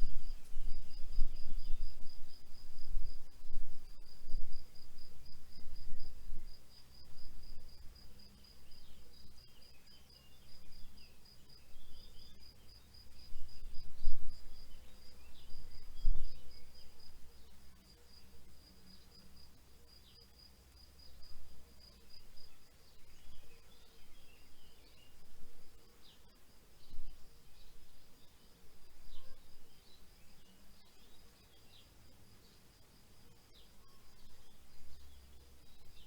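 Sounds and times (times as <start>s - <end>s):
field cricket chirping: 0.0s - 36.0s.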